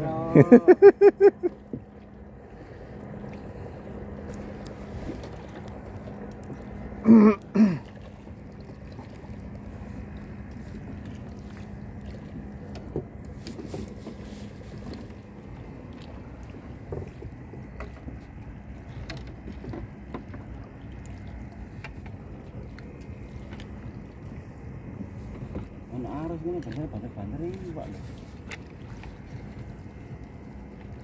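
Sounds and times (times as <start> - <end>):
boat engine humming: 0.0 - 31.0
water and wind noise: 0.0 - 31.0.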